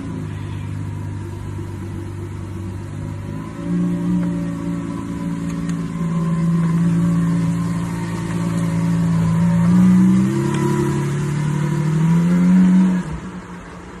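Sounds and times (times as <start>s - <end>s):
sports car engine running: 0.0s - 14.0s.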